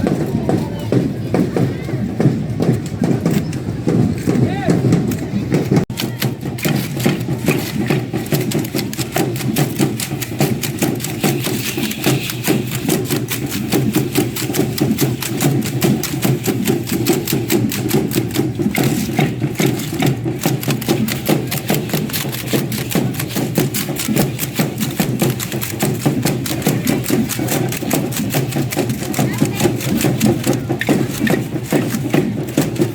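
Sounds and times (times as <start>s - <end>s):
dancers' rattles and steps: 0.0s - 32.9s
drum beat: 0.0s - 32.9s.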